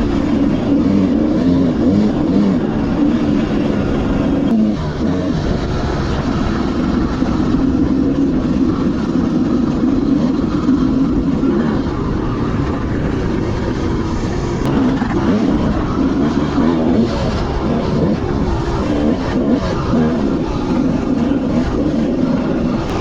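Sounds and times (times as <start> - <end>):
constant rushing noise: 0.0 - 23.0
dirt bike engine running: 0.0 - 23.0.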